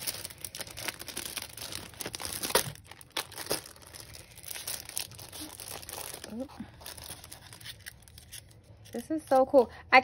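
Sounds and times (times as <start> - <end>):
plastic sleeve and paper crinkling: 0.0 - 9.5.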